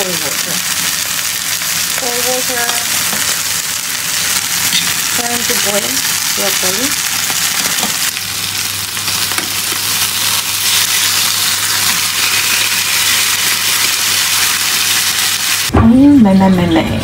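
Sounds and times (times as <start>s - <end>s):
chicken sizzling in a frying pan: 0.0s - 15.7s.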